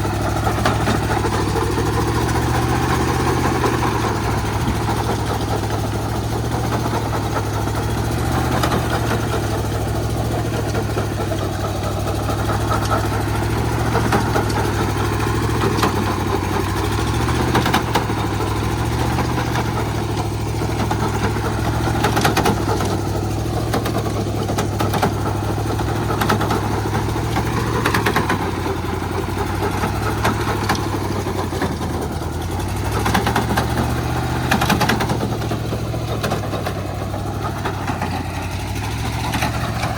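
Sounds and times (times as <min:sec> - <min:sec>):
small diesel engine running: 0:00.0 - 0:39.9.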